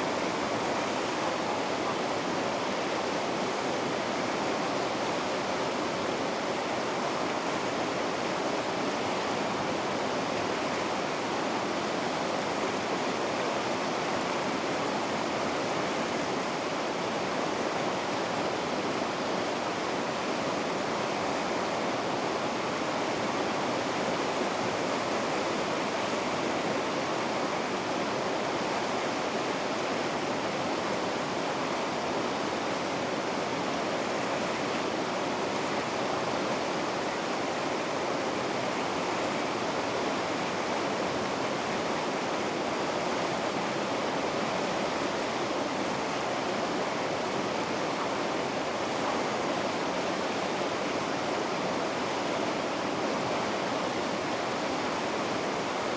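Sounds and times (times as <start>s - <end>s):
river rapids roaring: 0.0s - 55.9s.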